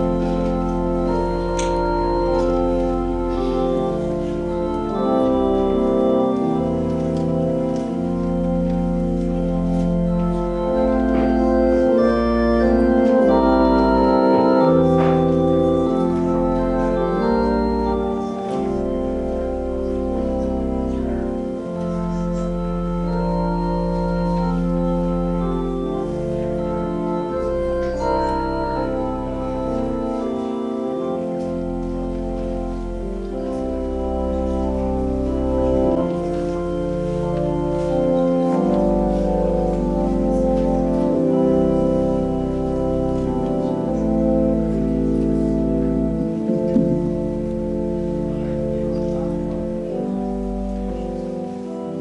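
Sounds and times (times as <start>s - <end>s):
organ playing slow chords: 0.0s - 52.0s.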